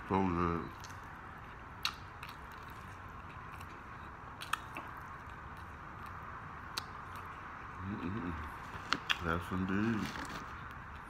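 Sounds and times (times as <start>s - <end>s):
chewing and biting food: 0.7s - 7.4s, 8.1s - 11.0s.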